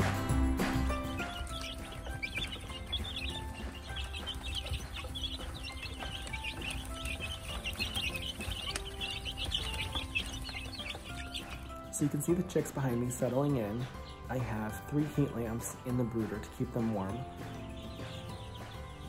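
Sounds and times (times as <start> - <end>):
chicks peeping: 0.0 - 19.0
soft background music: 0.0 - 19.0.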